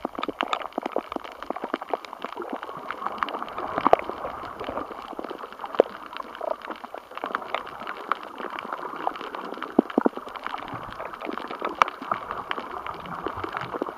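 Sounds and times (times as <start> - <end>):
sharp clicks and pops: 0.0 - 13.9.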